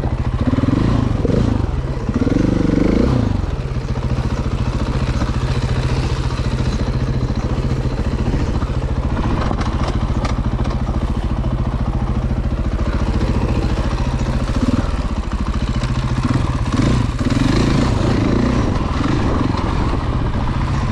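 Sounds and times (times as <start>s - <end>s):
dirt bike engine running: 0.0s - 20.9s.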